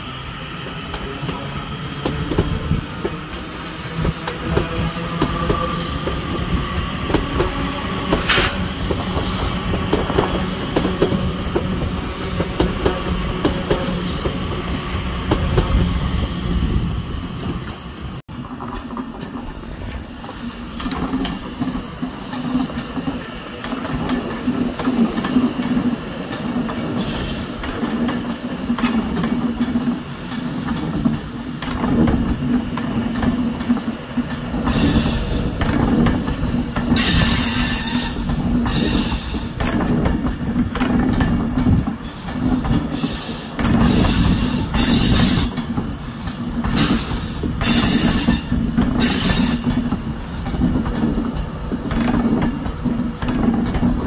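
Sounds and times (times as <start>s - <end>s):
train low hum: 0.0s - 54.0s
train wheels clicking over rail joints: 0.8s - 15.9s, 17.6s - 54.0s.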